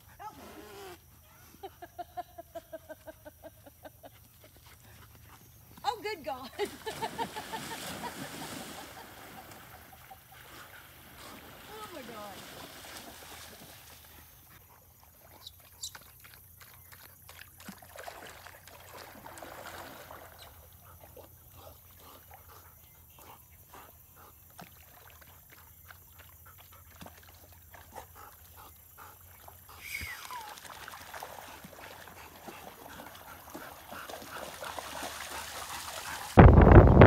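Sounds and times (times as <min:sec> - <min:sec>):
dogs splashing in water: 0:06.6 - 0:36.4.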